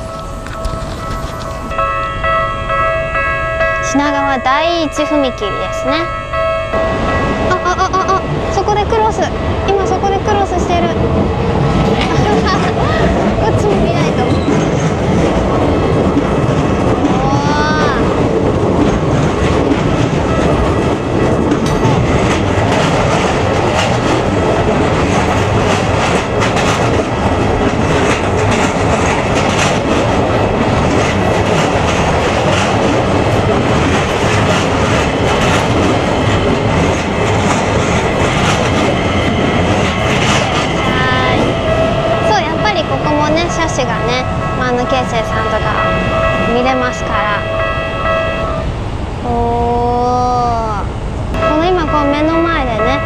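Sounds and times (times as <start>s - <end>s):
rail-joint clicks: 0.0s - 48.8s
train running past: 0.0s - 53.0s.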